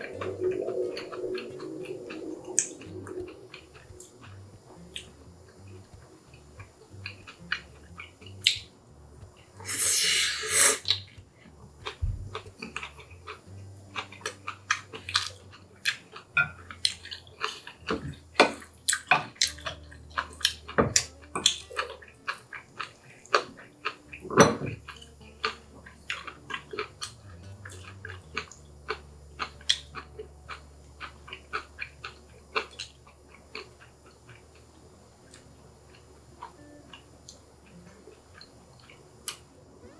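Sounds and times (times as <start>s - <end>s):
chewing noodles: 0.0s - 8.7s, 10.5s - 39.4s.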